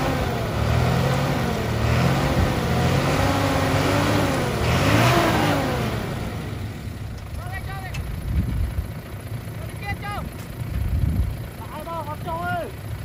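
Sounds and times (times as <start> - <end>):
diesel truck engine revving: 0.0 - 13.0.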